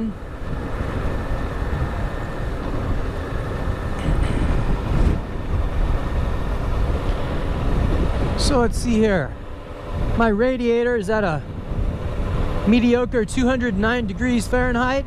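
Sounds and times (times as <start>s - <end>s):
motorcycle engine humming: 0.0s - 15.0s
wind rush in helmet: 0.0s - 15.0s.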